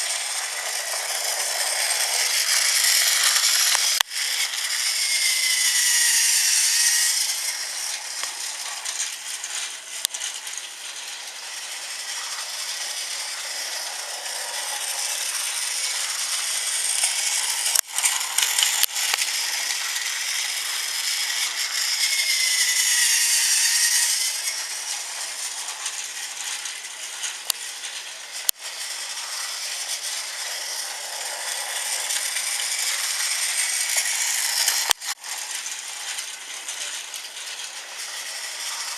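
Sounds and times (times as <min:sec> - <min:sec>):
toy train motor whirring: 0:00.0 - 0:38.9
wheels rattling over plastic track: 0:00.0 - 0:38.9.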